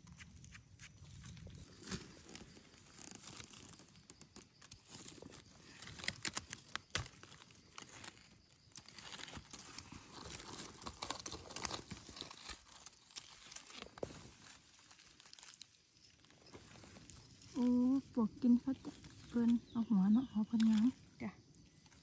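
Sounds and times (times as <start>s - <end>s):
dry leaves rustling and crackling: 1.1s - 22.0s.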